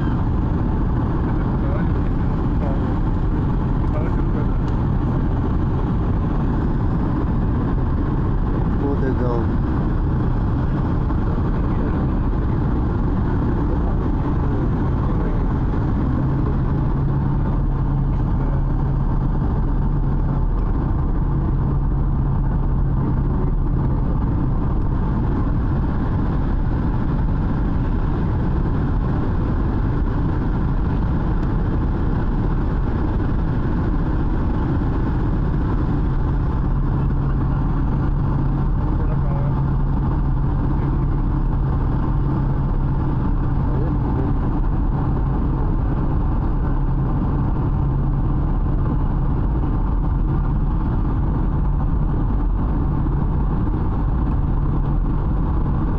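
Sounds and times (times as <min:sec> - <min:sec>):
aircraft cabin engine noise: 0:00.0 - 0:55.9
low hum: 0:00.0 - 0:55.9.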